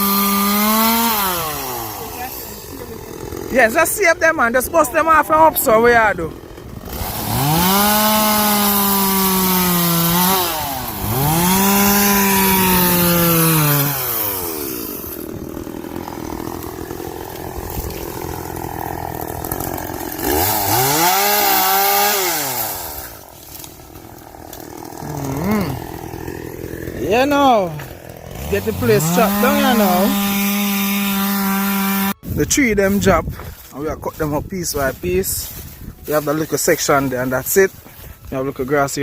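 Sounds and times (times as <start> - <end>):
chainsaw revving: 0.0 - 38.4.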